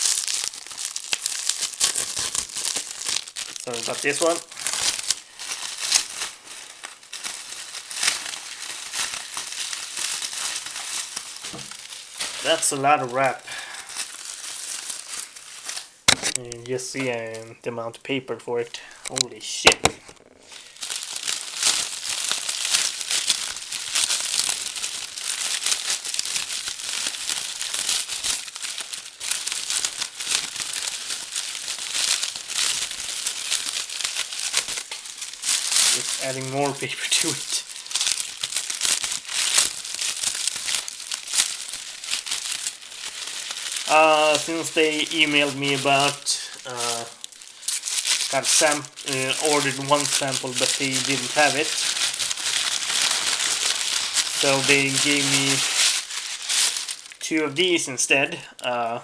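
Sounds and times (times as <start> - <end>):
packing paper crinkling: 0.0 - 59.0.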